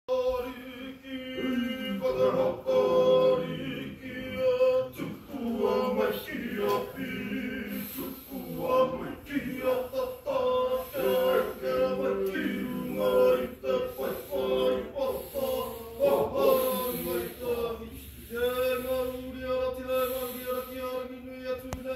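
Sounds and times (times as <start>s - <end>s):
group singing men and women: 0.1s - 21.9s.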